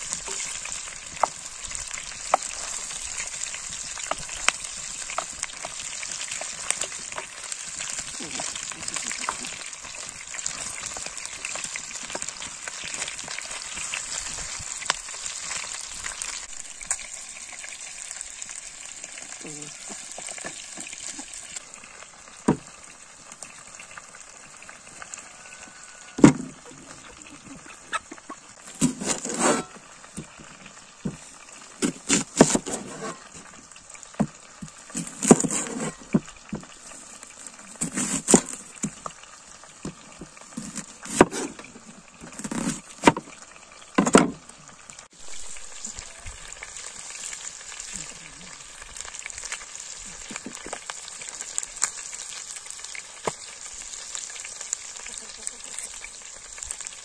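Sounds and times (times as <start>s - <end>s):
food sizzling: 0.0s - 57.0s.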